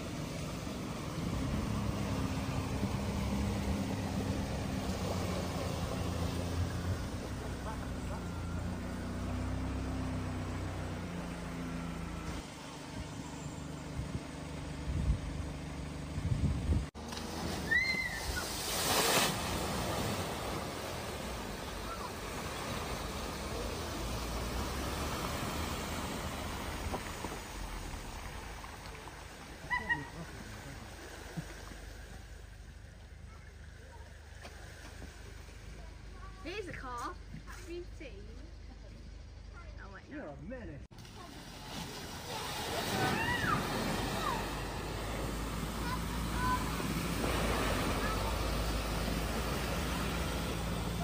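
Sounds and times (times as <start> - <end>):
water rushing and splashing: 0.0 - 14.8, 16.9 - 35.8, 40.9 - 51.0
bus engine running: 0.0 - 18.4, 19.4 - 51.0.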